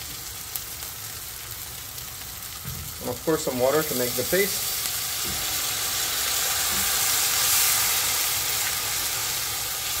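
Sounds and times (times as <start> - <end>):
curry sizzling in hot oil: 0.0 - 10.0.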